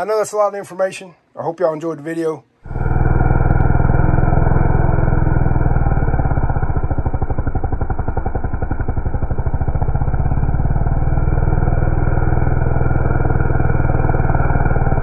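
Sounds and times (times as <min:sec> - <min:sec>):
chainsaw cutting a log: 0:02.7 - 0:15.0.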